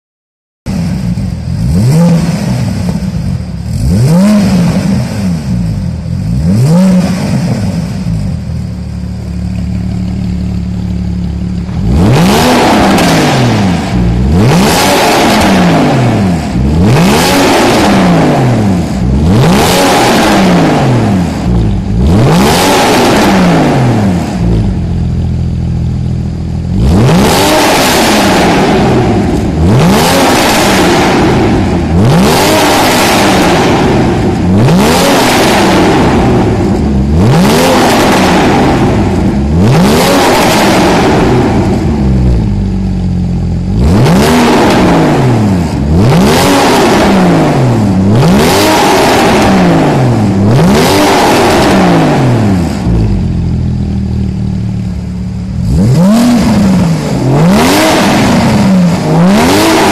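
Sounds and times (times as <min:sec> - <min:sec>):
car engine revving: 0:00.7 - 0:59.9.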